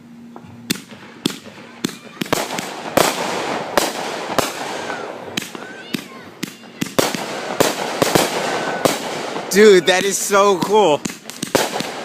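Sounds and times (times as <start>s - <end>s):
fireworks hissing crackle: 0.0s - 12.0s
fireworks bangs: 0.3s - 12.0s.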